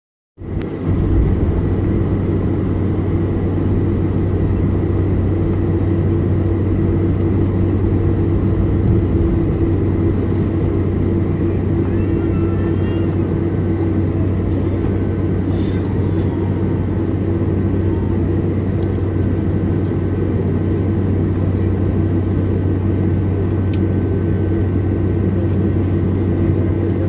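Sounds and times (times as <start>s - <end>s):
airplane cabin engine drone: 0.4s - 27.0s.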